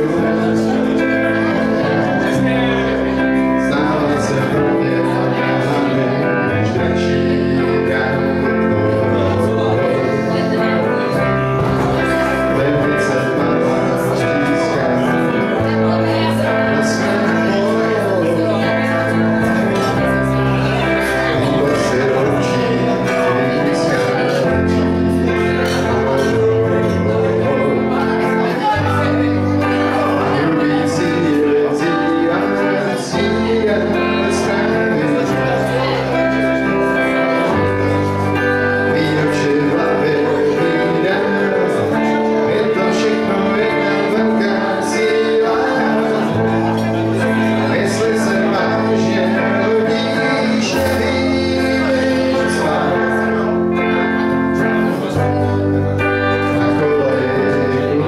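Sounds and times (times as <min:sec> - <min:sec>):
bass line: 0:00.0 - 0:58.0
electric guitars: 0:00.0 - 0:58.0
man singing into microphone: 0:00.0 - 0:58.0.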